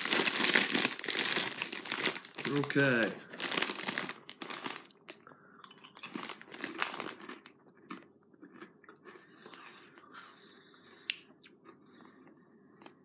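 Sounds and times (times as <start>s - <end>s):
crackers crunching: 0.0s - 13.0s.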